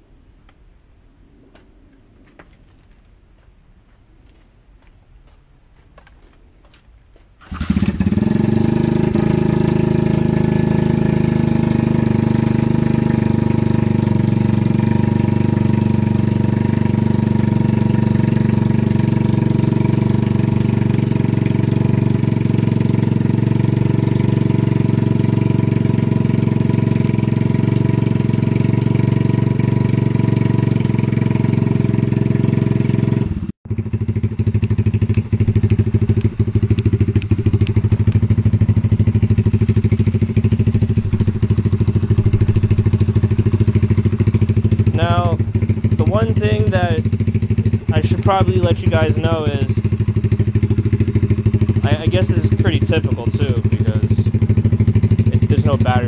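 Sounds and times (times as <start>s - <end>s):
motorcycle engine starting and idling: 6.0s - 56.0s.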